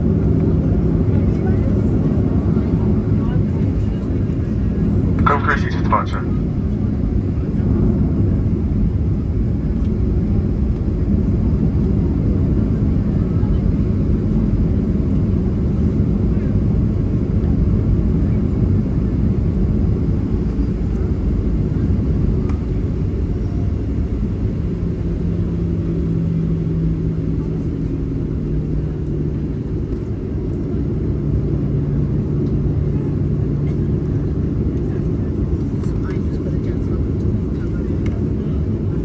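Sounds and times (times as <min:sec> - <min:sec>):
jet airliner cabin rumble: 0:00.0 - 0:39.0
steady low hum: 0:00.0 - 0:39.0.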